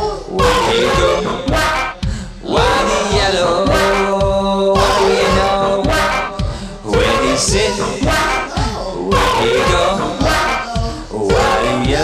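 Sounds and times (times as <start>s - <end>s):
person singing: 0.0s - 12.0s
steady drum beat: 0.0s - 12.0s.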